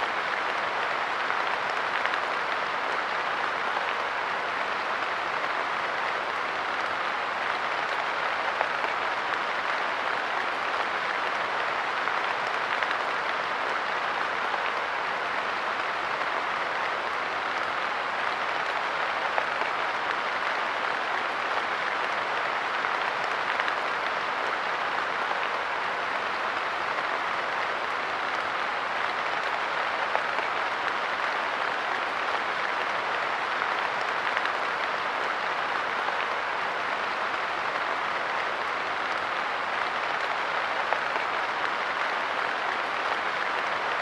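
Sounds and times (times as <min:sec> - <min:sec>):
light rain pattering on a bench: 0:00.0 - 0:44.0.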